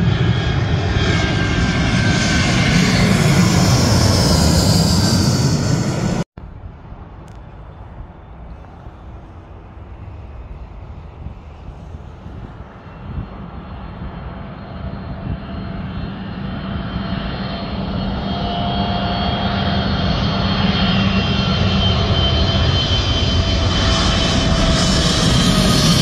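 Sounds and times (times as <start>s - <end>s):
jet airliner passing overhead: 0.0s - 26.0s.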